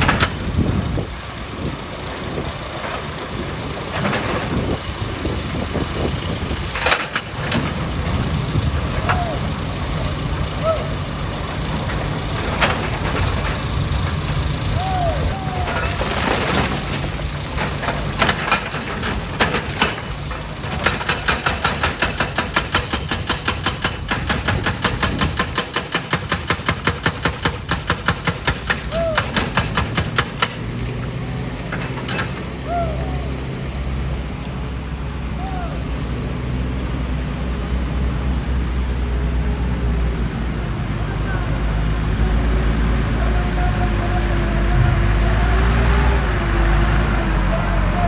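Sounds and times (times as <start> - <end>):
heavy machinery rumbling: 0.0 - 48.0.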